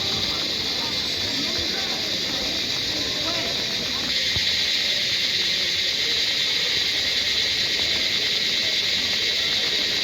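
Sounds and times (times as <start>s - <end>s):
distant voices murmuring: 0.0s - 10.0s
insect chorus chirring: 0.0s - 10.0s.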